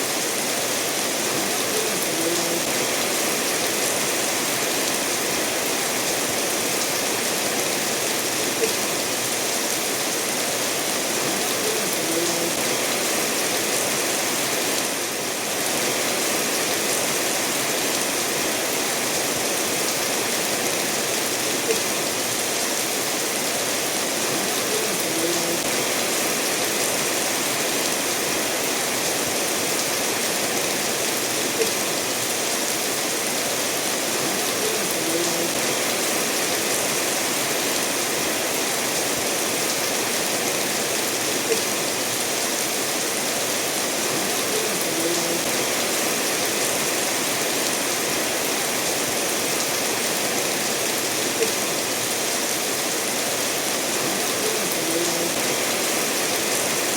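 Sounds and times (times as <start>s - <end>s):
steady rainfall: 0.0s - 56.9s
stream running over stones: 0.0s - 56.9s.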